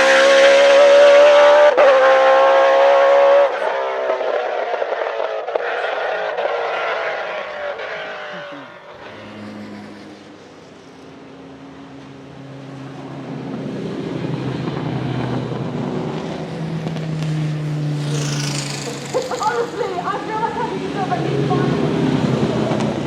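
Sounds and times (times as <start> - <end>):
racing car passing at high revs: 0.0 - 23.0.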